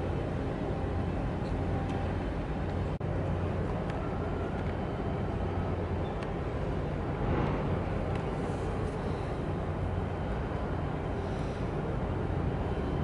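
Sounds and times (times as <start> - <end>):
low outdoor rumble with hum: 0.0 - 13.0.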